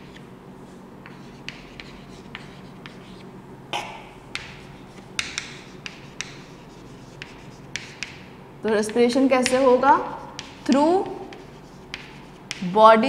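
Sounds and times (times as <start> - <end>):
chalk tapping and scraping on blackboard: 0.0 - 0.2, 1.0 - 3.3, 4.3 - 12.8.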